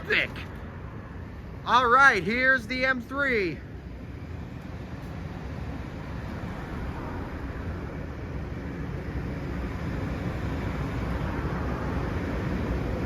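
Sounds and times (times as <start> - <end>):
train approaching rumble: 0.0 - 13.0.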